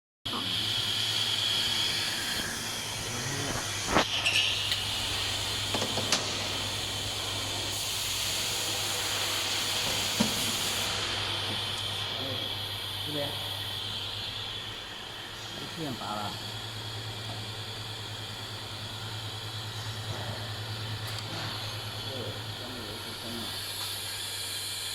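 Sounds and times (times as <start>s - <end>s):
steady hiss: 4.7s - 24.9s.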